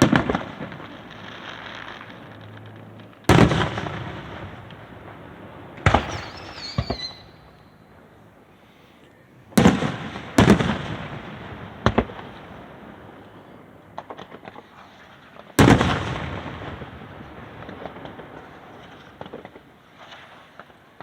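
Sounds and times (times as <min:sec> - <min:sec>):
fireworks booming: 0:00.0 - 0:07.6, 0:09.6 - 0:20.7
fireworks crackling pops: 0:00.0 - 0:07.7, 0:09.6 - 0:21.0.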